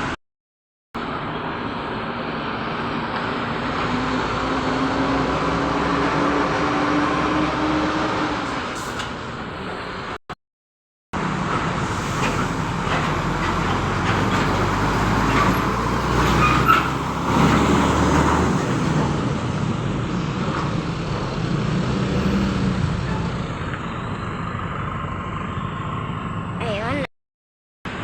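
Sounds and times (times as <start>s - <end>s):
road traffic: 1.0s - 10.2s, 11.2s - 27.1s.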